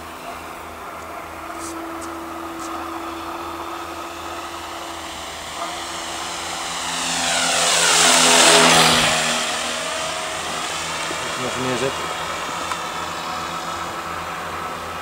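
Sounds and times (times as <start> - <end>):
model plane motor passing: 0.0 - 15.0.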